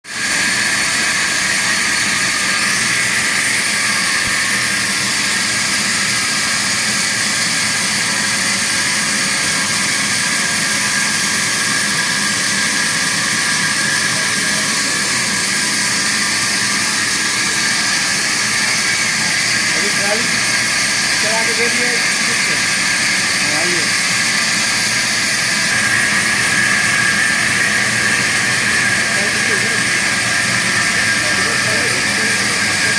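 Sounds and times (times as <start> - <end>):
band saw running: 0.0 - 32.9.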